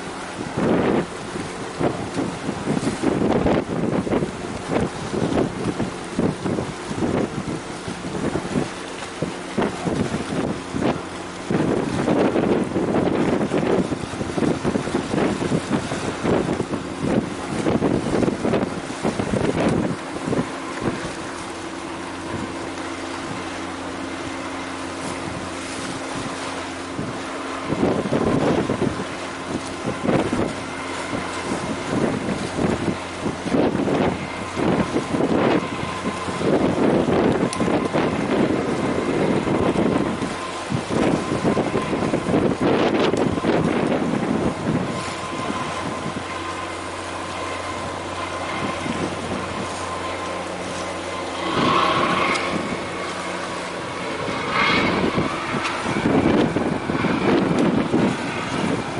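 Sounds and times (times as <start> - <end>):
boat engine droning: 0.0 - 58.9
wind buffeting microphone: 0.0 - 58.9
wind hiss: 0.0 - 58.9.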